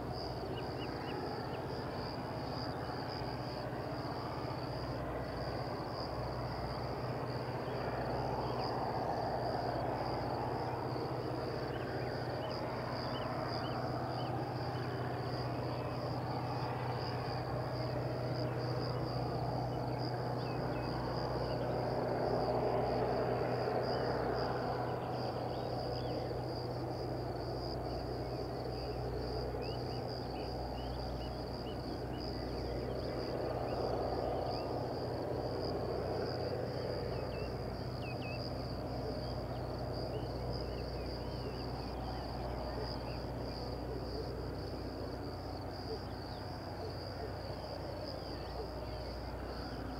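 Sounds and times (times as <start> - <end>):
crickets chirping: 0.0 - 49.9
dull background rumble: 0.0 - 49.9
steady low hum: 0.0 - 49.9.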